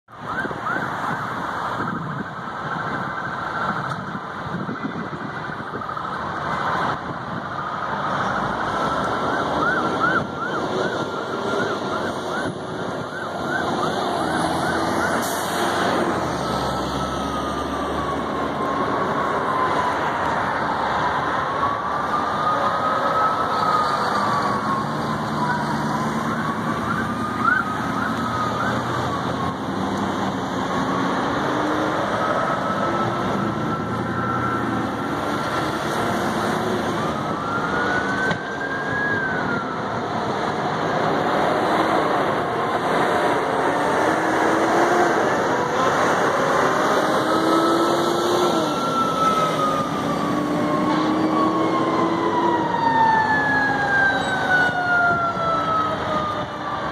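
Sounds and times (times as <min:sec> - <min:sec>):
road traffic noise: 0:00.0 - 0:56.9
sirens wailing: 0:00.1 - 0:56.9.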